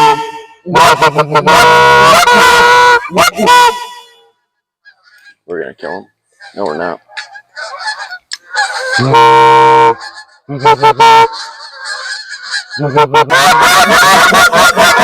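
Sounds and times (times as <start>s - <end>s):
goose call honks and clucks: 0.0s - 15.0s.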